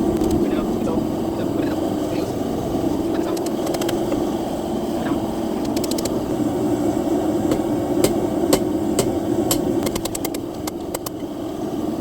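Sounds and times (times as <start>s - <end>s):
forge roaring: 0.0s - 9.8s.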